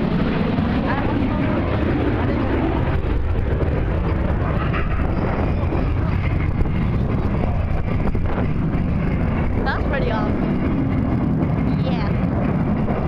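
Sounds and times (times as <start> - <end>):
jet engines rumbling overhead: 0.0 - 13.0.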